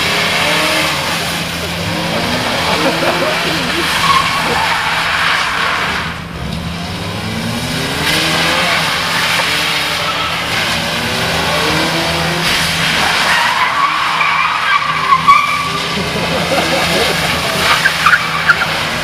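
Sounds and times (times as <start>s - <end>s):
car engine revving: 0.0s - 19.0s
tyres skidding: 0.0s - 19.0s.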